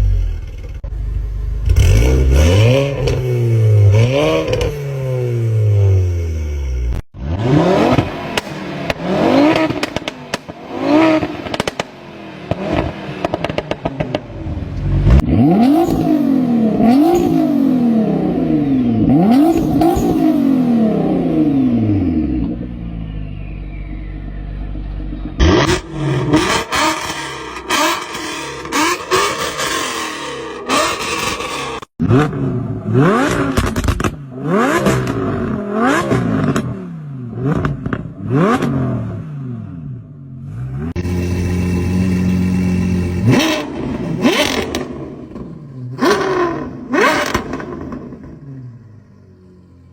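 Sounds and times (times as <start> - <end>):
engine revving: 0.0 - 49.9.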